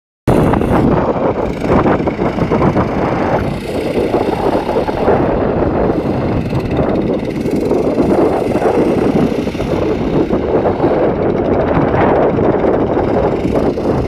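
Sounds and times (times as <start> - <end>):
go-kart engine running: 0.3 - 14.0.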